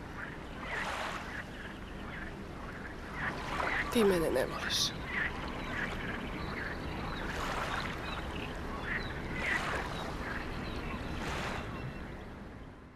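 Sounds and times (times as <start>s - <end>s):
wind: 0.0s - 12.9s.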